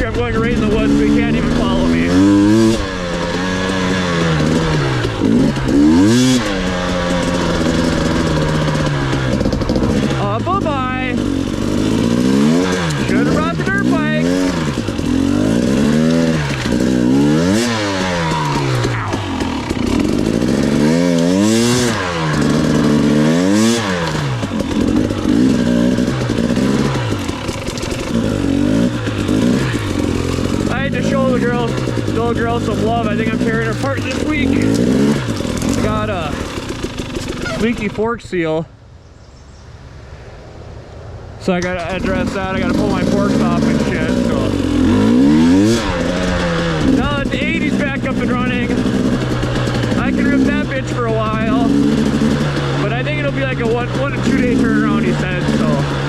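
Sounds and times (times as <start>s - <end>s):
off-road vehicle engine revving: 0.0s - 38.7s, 41.4s - 56.0s.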